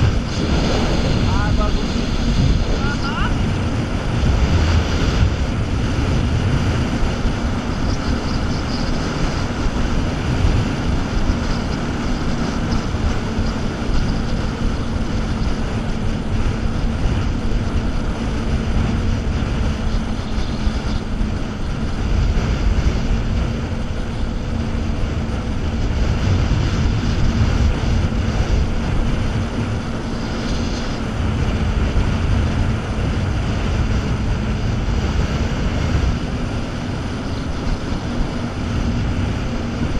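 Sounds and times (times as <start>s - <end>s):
churning water: 0.0s - 39.9s
jet ski engine hum: 0.0s - 39.9s
wind rushing: 0.0s - 39.9s.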